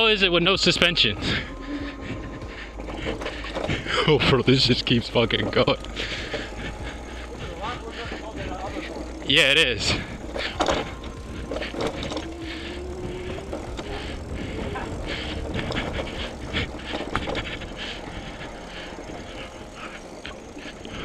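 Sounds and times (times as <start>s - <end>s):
bike rattling over rocks: 0.0s - 21.0s
low riding rumble: 0.0s - 21.0s.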